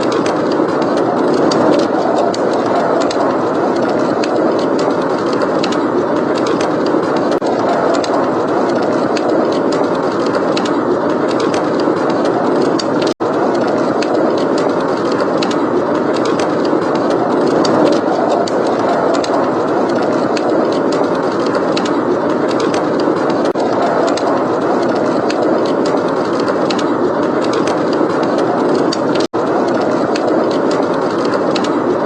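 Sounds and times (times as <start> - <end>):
blizzard wind rushing: 0.0 - 32.0
wood fire crackling: 0.0 - 32.0.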